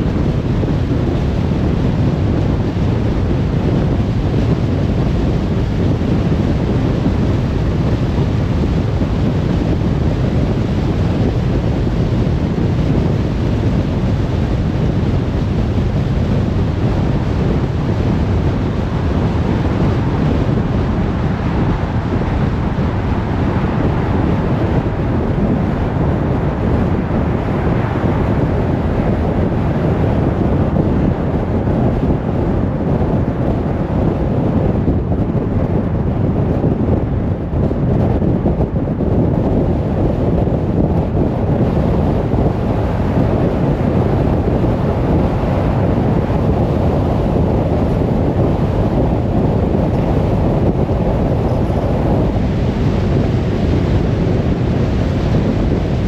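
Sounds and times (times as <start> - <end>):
road and wind noise: 0.0 - 56.0.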